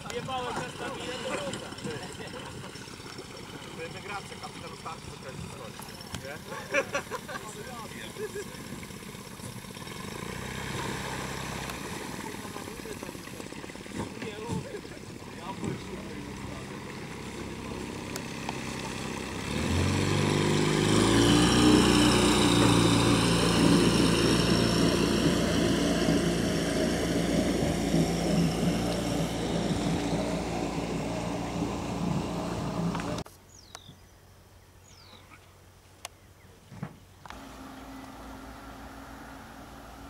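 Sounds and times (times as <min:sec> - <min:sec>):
outboard boat motor running: 0:00.0 - 0:33.3, 0:37.2 - 0:40.0.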